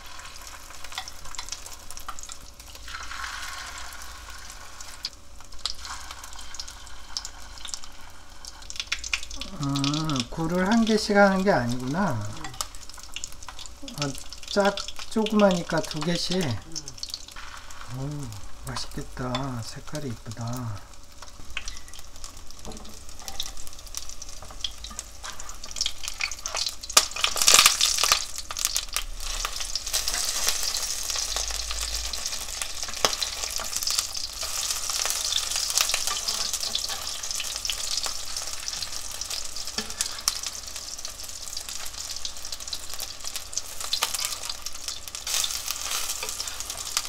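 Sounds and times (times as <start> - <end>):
oysters sizzling in hot oil: 0.0 - 47.0.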